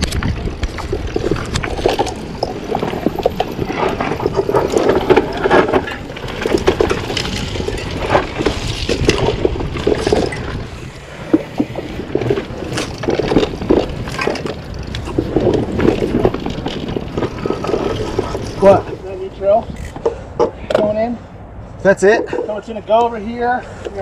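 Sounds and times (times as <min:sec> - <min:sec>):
rushing noise of bike riding: 0:00.0 - 0:20.4
bike knocks and rattles: 0:00.0 - 0:21.0.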